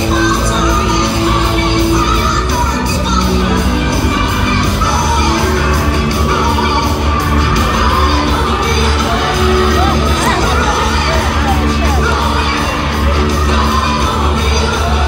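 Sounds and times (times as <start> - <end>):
song over speakers echoing: 0.0 - 15.0.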